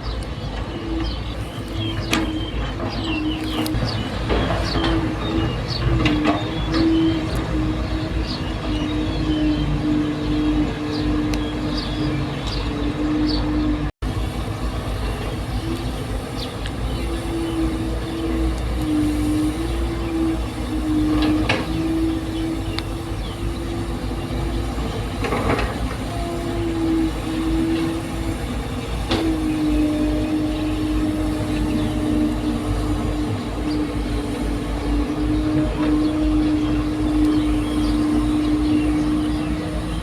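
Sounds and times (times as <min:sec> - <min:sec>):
heavy diesel machinery running: 0:00.0 - 0:40.0.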